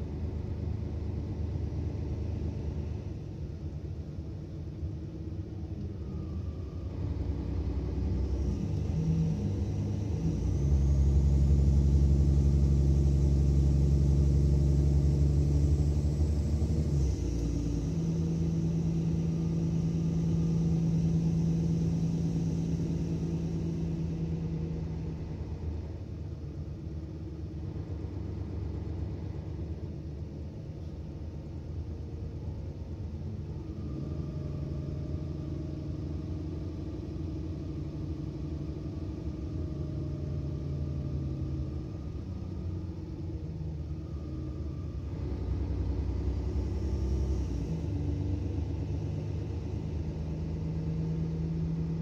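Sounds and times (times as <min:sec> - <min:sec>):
bus diesel engine accelerating: 0:00.0 - 0:52.0.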